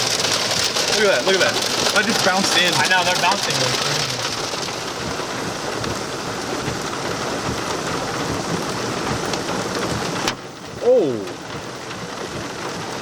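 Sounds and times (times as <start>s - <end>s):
hail and rain pelting vehicle: 0.0s - 13.0s.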